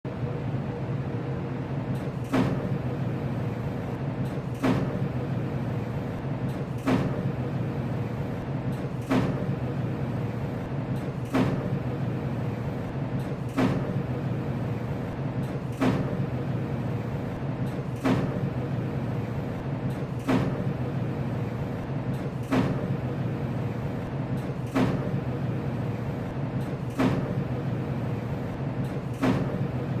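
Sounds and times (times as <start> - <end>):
hvac unit humming: 0.0 - 30.0.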